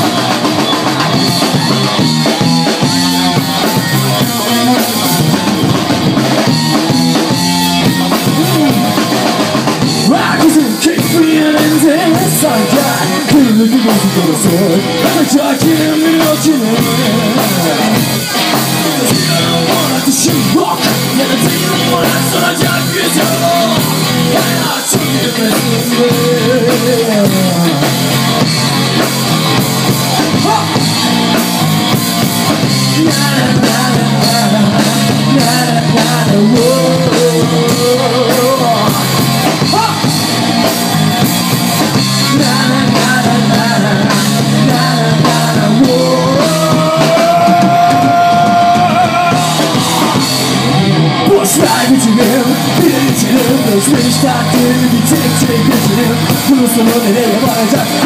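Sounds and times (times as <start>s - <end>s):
drum kit: 0.0s - 58.0s
electric bass: 0.0s - 58.0s
electric guitar: 0.0s - 58.0s
person singing: 0.0s - 58.0s.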